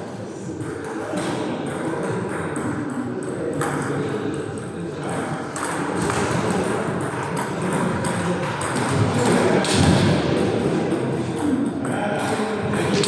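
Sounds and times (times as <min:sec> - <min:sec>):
crowded sports hall background noise: 0:00.0 - 0:13.0.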